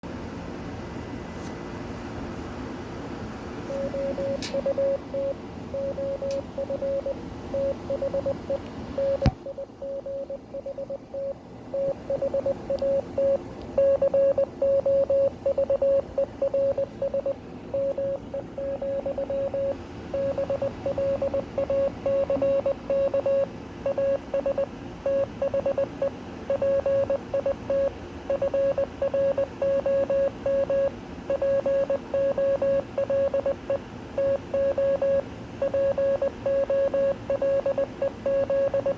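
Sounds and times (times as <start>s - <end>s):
background hiss and hum: 0.0s - 38.9s
morse code beeps: 3.8s - 38.9s.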